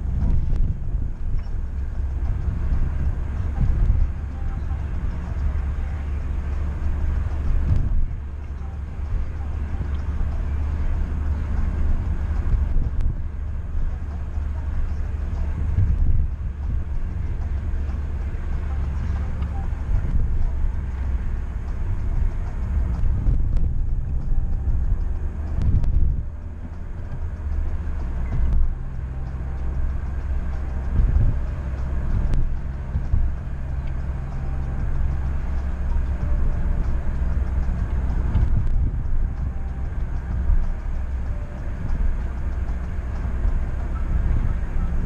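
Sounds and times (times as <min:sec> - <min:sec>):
car engine note: 0:00.0 - 0:45.0
car road noise rumble: 0:00.0 - 0:45.0.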